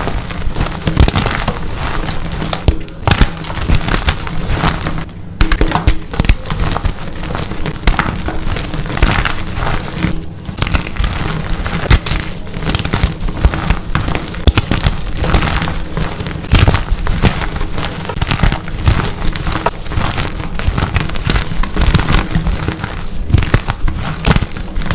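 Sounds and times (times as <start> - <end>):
chalk blocks crunching and cracking: 0.0 - 24.9.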